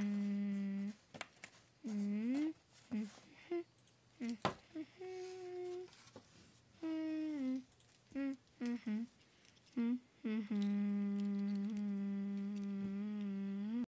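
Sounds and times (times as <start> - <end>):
person humming: 0.0 - 1.0, 1.8 - 6.0, 6.8 - 13.9.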